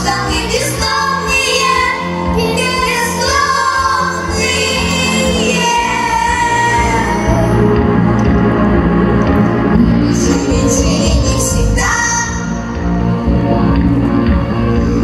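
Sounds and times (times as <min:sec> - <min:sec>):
song with high voices: 0:00.0 - 0:15.0.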